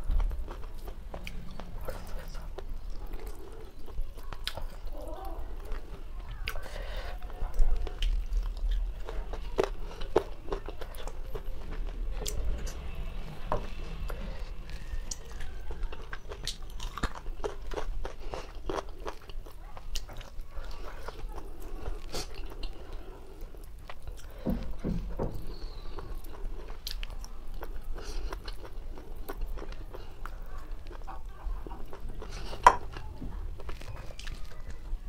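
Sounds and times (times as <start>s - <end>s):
person chewing chicken: 0.0s - 35.0s.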